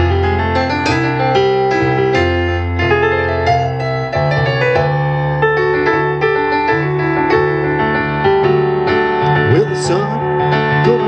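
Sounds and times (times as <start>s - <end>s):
keyboard piano chords: 0.0s - 11.0s
piano bass line: 0.0s - 11.0s.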